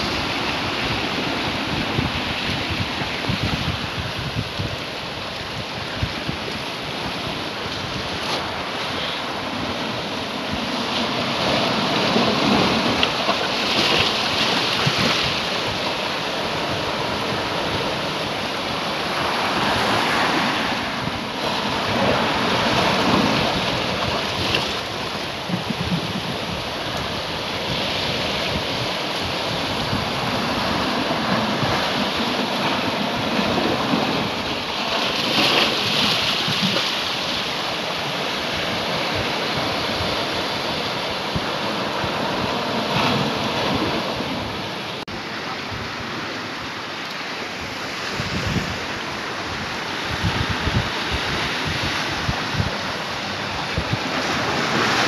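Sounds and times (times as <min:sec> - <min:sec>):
surf breaking over rocks: 0:00.0 - 0:55.0.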